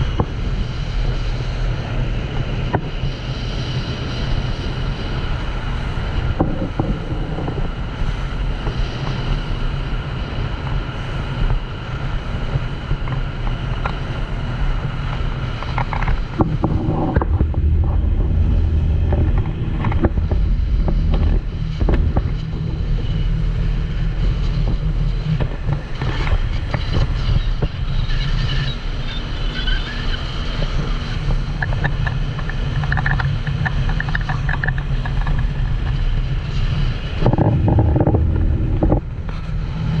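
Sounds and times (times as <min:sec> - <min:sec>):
boat engine and hull noise: 0:00.0 - 0:40.0
wind buffeting microphone: 0:00.0 - 0:40.0.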